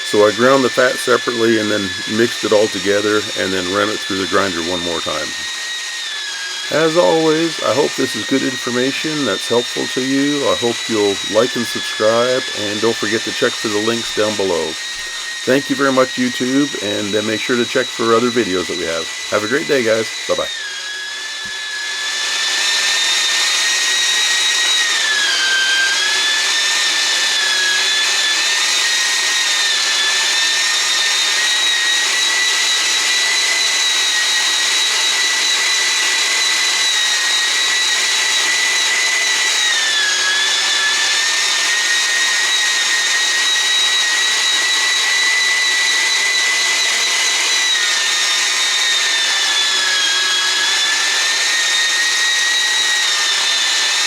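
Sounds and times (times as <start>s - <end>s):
meat grinder motor whine: 0.0s - 54.0s.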